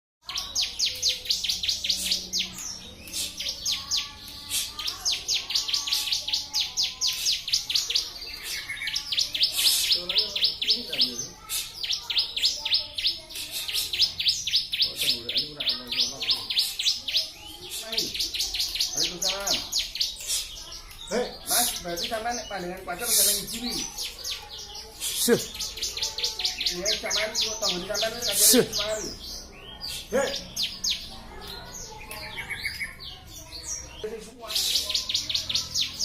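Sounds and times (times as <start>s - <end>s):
bird singing rapid high notes: 0.2s - 36.0s.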